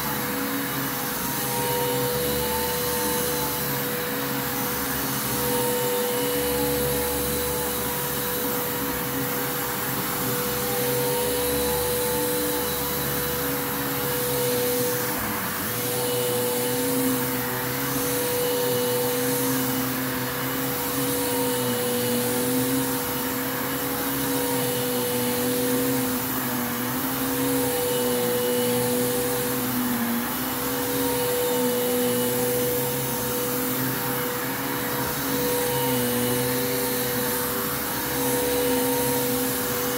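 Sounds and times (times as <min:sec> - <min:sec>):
vacuum cleaner running on rug: 0:00.0 - 0:39.9.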